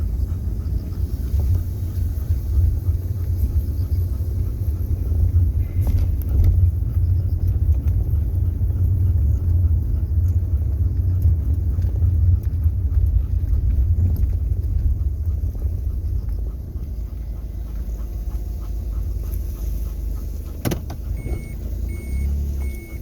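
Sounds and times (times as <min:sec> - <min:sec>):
wind buffeting microphone: 0:00.0 - 0:22.6.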